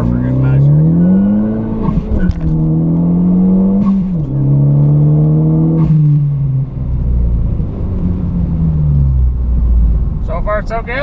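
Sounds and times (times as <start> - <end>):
turbocharged car engine revving: 0.0 - 10.0.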